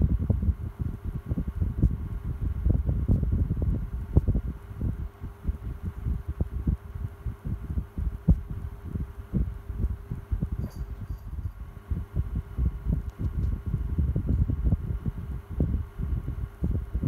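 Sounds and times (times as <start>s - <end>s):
fan airflow buffeting microphone: 0.0s - 17.0s
fan motor hum: 0.0s - 17.0s.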